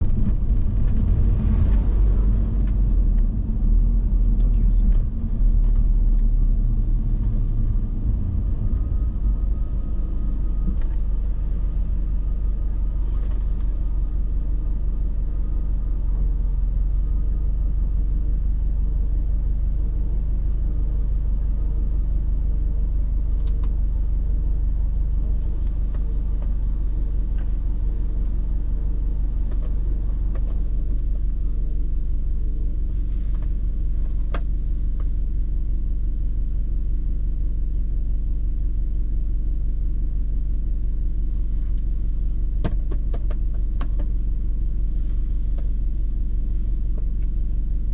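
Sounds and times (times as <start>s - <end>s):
car engine rumble while driving: 0.0s - 47.9s.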